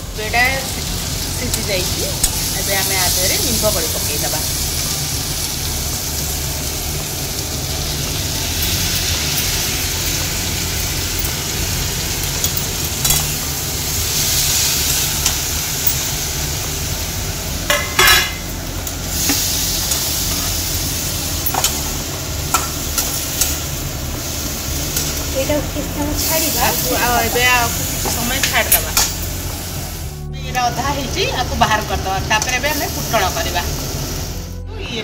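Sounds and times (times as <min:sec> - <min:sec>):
vegetables sizzling in oil: 0:00.0 - 0:35.0.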